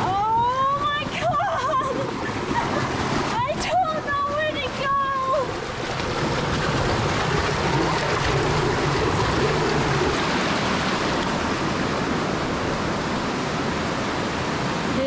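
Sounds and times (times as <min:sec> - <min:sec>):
creek water rushing over rock: 0:00.0 - 0:15.0.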